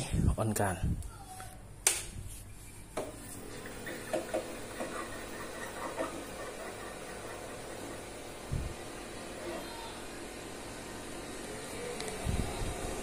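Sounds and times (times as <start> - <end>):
light fan and motor hum: 0.0 - 13.0.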